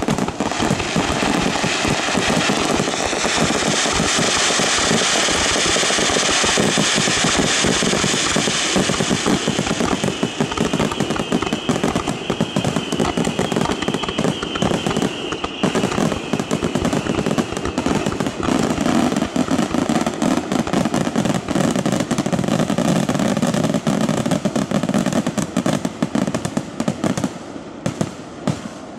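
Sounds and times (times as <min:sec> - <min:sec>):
fireworks bursting and crackling: 0:00.0 - 0:28.9.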